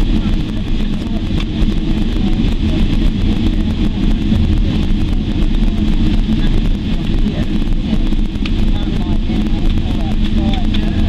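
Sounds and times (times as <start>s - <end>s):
jet cabin engine rumble: 0.0s - 11.0s
wheels rolling on taxiway: 0.0s - 11.0s.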